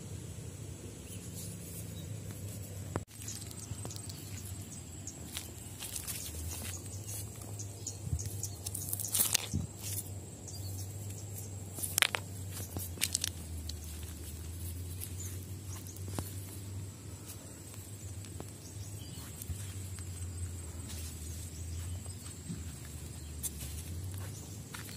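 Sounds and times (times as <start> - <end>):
footsteps on loose gravel: 2.4 - 24.9.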